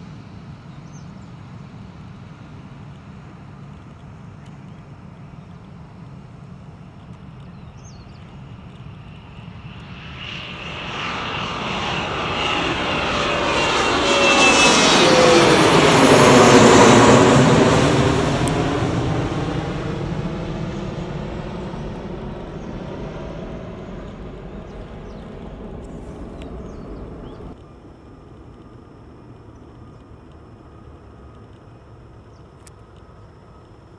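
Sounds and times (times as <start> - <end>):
jet airliner engines passing: 0.0 - 33.9.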